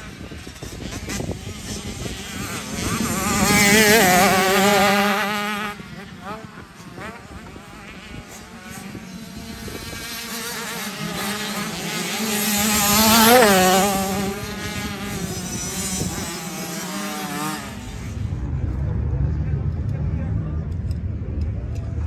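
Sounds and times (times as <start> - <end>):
motocross bikes passing by: 0.0 - 22.0.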